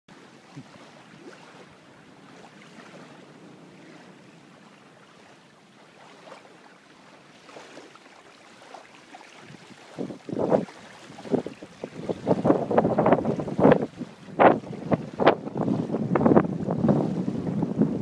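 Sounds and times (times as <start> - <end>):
faint wind: 0.1 - 18.0
small waves lapping on sand: 0.1 - 18.0
soft water splashes: 0.1 - 18.0.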